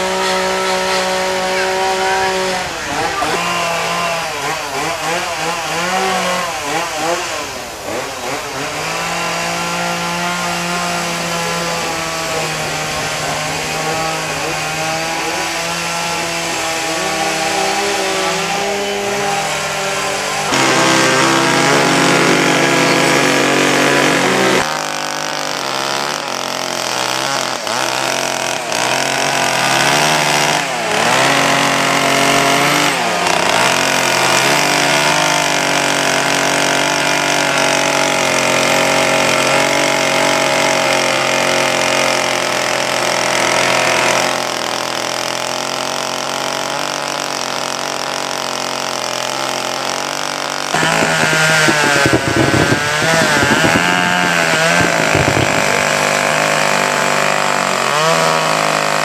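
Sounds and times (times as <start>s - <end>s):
chainsaws running and revving: 0.0s - 59.0s.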